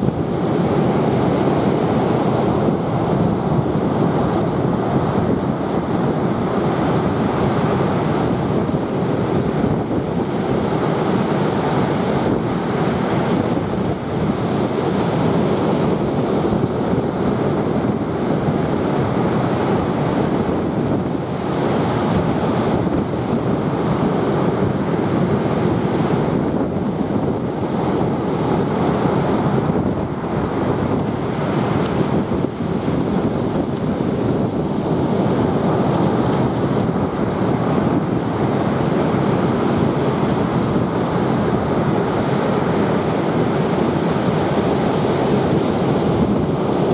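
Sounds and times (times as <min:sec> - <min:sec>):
surf breaking on beach: 0:00.0 - 0:46.9
wind blowing across microphone: 0:00.0 - 0:46.9.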